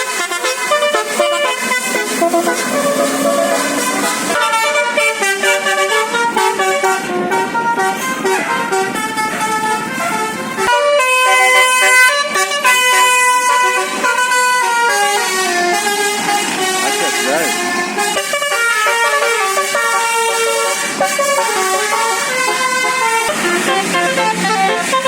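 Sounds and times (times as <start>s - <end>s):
bus musical air horn tune: 0.0s - 25.0s.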